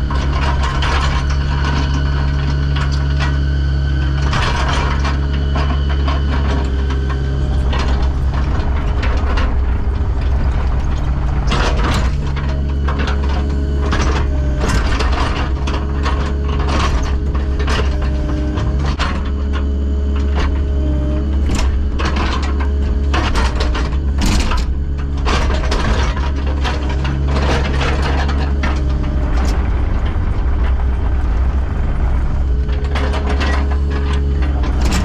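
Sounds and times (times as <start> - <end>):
diesel machine running: 0.0 - 35.0
hydraulic whine: 0.0 - 35.0
metallic clanks and knocks: 0.0 - 35.0.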